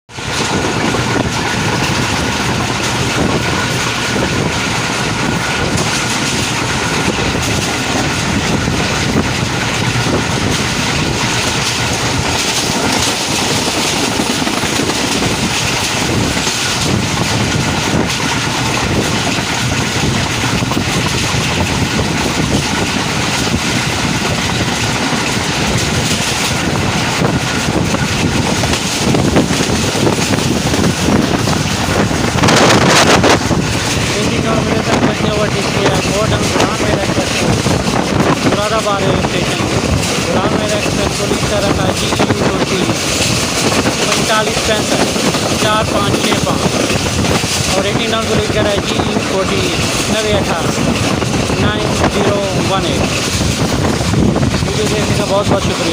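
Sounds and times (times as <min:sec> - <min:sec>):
train wheels clattering on rails: 0:00.1 - 0:55.9.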